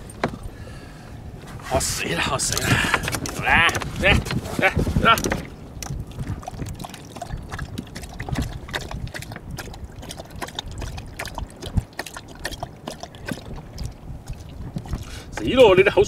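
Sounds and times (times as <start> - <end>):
low steady rumble: 0.0 - 16.0
water splashes and clicks: 2.4 - 16.0.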